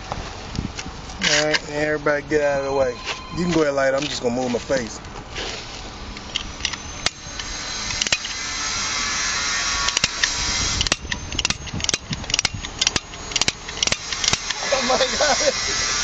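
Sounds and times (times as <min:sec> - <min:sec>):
welding charge hissing: 0:02.2 - 0:16.0.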